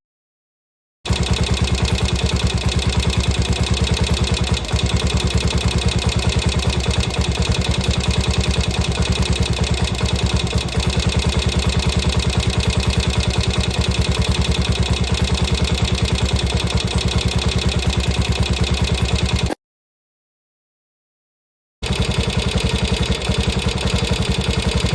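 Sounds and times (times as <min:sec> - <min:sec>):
motorcycle engine idling: 0:01.1 - 0:19.6, 0:21.8 - 0:24.9.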